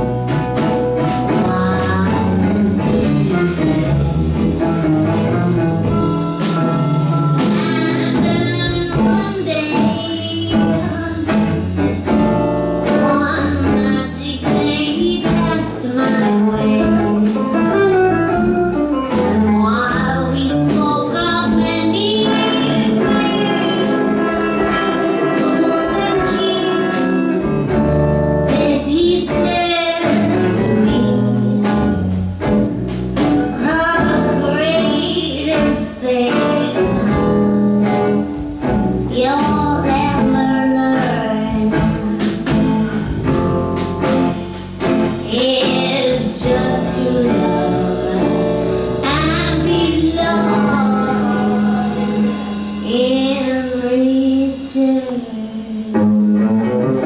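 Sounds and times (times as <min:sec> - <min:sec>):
acoustic guitar chords: 0:00.0 - 0:57.0
bass: 0:00.0 - 0:57.0
person singing with vibrato: 0:01.3 - 0:18.5, 0:19.1 - 0:32.2, 0:33.6 - 0:38.5, 0:44.8 - 0:56.6.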